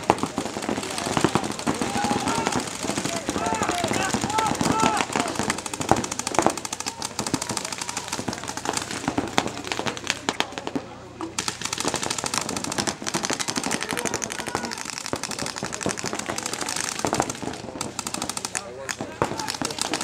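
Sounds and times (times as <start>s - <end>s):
paintball markers firing: 0.0s - 20.0s.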